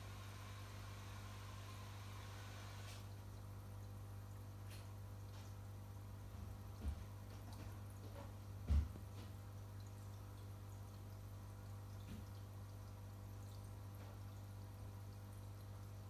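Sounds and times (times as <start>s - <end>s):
aquarium filter hum: 0.0s - 16.0s
water trickling and dripping: 3.1s - 16.0s.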